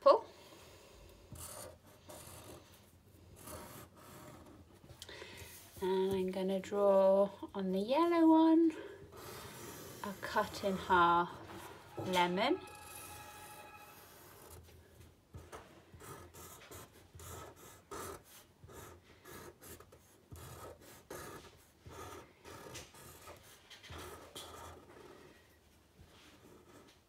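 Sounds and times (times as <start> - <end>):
marker pen scratching on paper: 0.6 - 6.2, 8.8 - 27.0.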